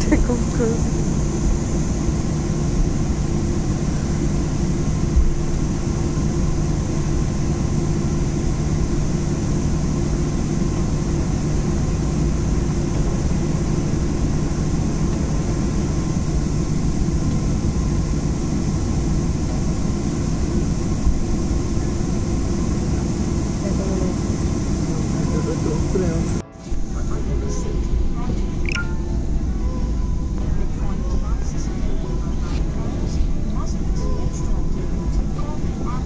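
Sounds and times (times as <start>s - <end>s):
airliner engines humming: 0.0s - 36.0s.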